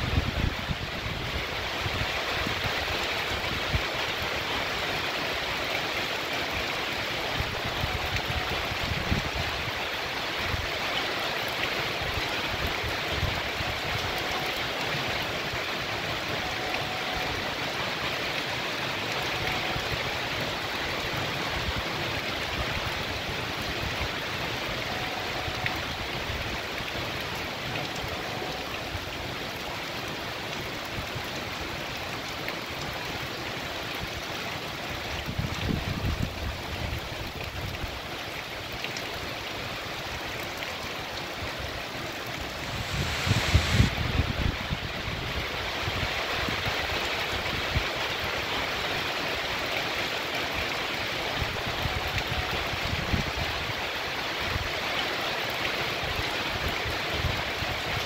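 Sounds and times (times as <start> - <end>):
heavy rain on pavement and tree: 0.0 - 58.0
rainwater running along street: 0.0 - 58.0.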